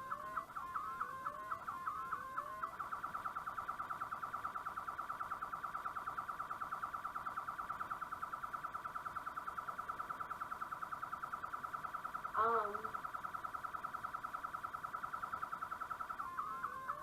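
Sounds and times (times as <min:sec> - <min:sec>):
alarm rising chirps: 0:00.0 - 0:17.0
rapid alarm beeping: 0:00.0 - 0:17.0.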